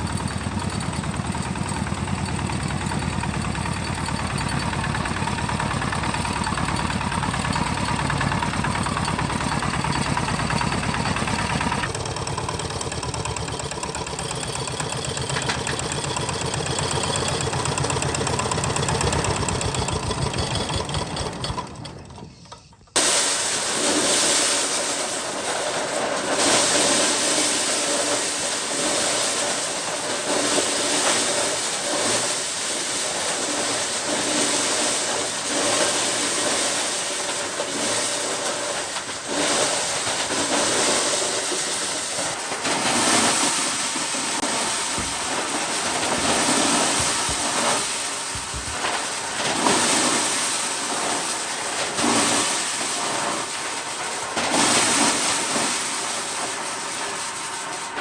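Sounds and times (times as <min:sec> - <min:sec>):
tractor engine running: 0:00.0 - 0:23.0, 0:27.1 - 0:57.7.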